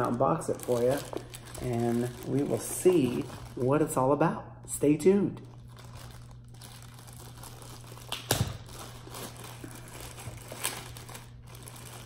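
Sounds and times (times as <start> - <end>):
plastic packaging crinkling: 0.0 - 4.0, 5.4 - 12.0.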